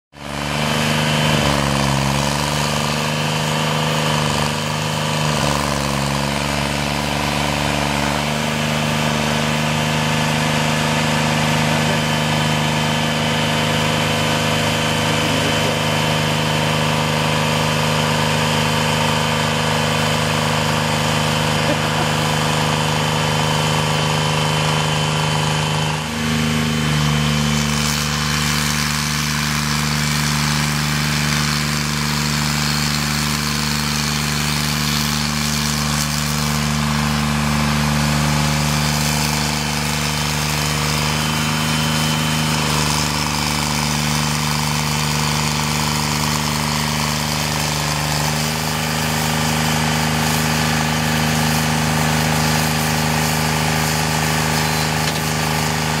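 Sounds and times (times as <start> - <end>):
stump grinder engine running: 0.1 - 56.0.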